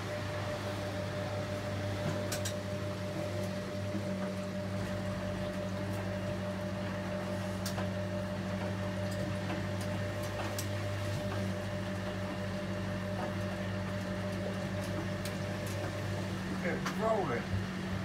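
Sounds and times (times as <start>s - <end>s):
washing machine humming: 0.0s - 18.0s.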